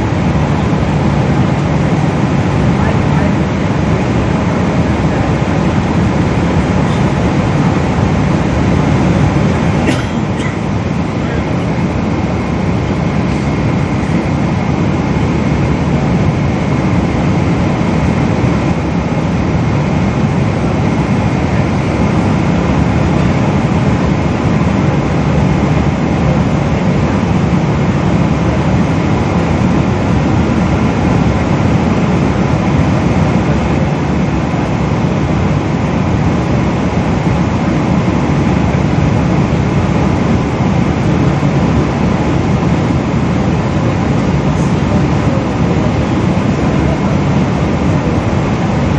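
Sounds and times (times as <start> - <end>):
airplane cabin engine drone: 0.0 - 48.9.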